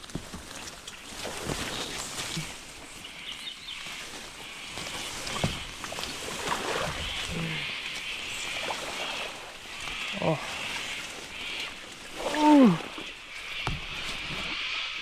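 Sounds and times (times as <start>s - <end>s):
water sloshing from wading: 0.0s - 15.0s.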